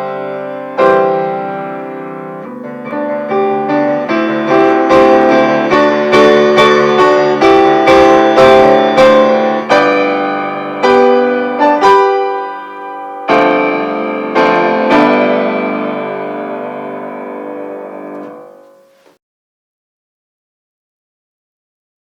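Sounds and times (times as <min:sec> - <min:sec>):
solo piano playing: 0:00.0 - 0:19.2.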